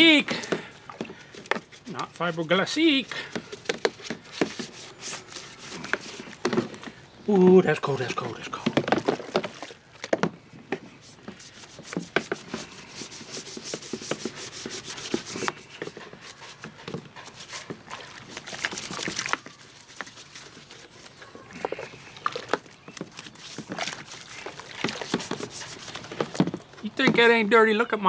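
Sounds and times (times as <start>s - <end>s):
stiff brush scrubbing plastic: 0.0s - 28.0s.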